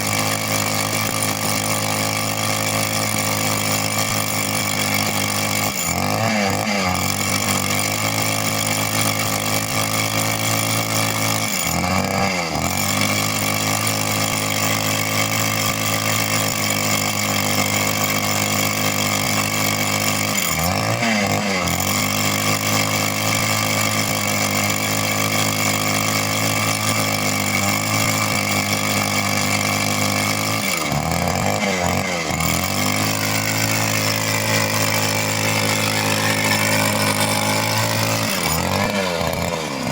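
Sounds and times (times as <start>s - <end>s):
rock drill engine running: 0.0s - 39.9s.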